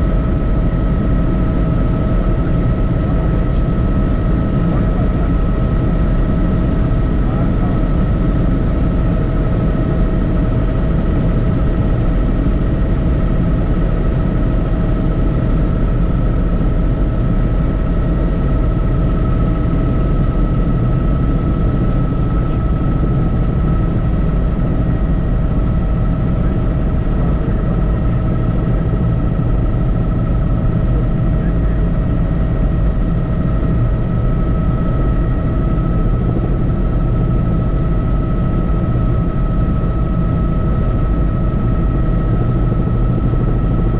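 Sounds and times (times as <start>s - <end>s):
helicopter rotor and engine drone: 0.0s - 43.9s.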